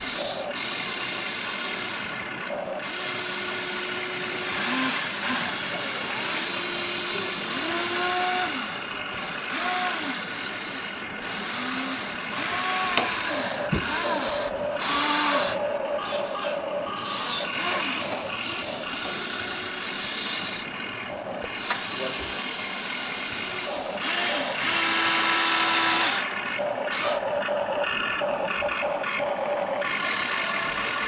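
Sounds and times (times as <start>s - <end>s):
small electric motors whining: 0.0s - 31.0s.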